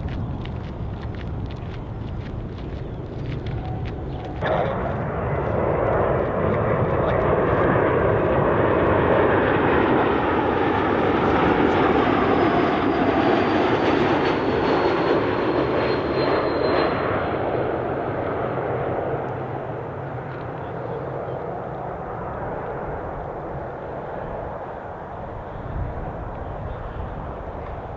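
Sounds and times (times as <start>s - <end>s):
faint high engine whine: 0.0s - 27.9s
jet engines rushing: 0.0s - 27.9s.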